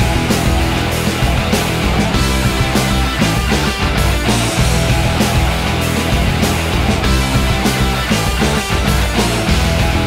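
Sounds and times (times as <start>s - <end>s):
loud rock music: 0.0s - 10.0s.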